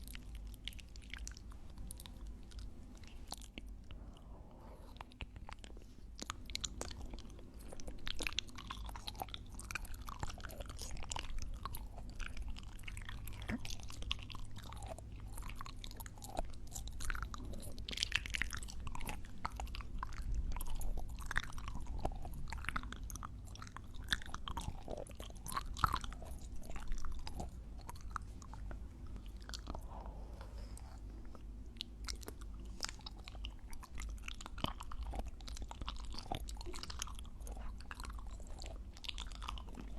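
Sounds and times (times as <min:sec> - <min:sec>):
close chewing and biting: 0:00.0 - 0:39.9
steady low hum: 0:00.0 - 0:39.9.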